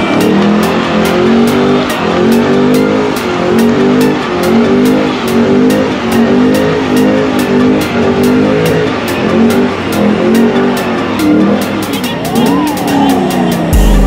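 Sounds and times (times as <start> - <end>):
car engine revving: 0.0 - 14.0
tires spinning: 0.0 - 14.0.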